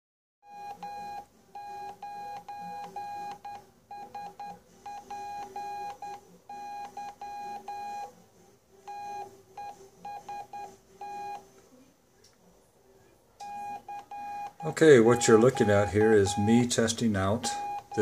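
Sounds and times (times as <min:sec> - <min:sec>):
morse code tone: 0:00.4 - 0:08.1, 0:08.9 - 0:11.4, 0:13.4 - 0:18.0.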